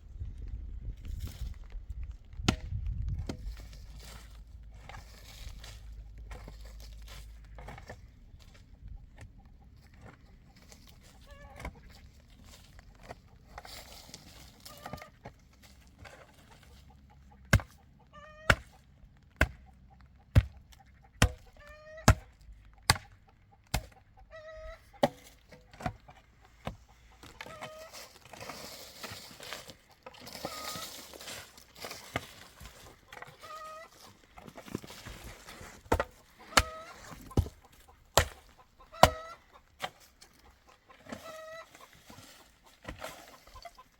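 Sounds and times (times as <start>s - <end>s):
chickens clucking: 3.1s - 43.9s.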